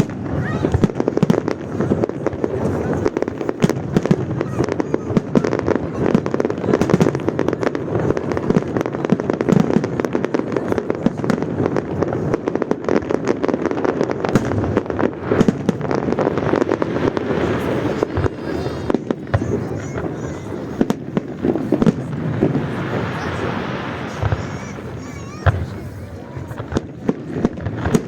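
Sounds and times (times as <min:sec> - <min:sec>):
fireworks bangs and cracks: 0:00.0 - 0:28.0.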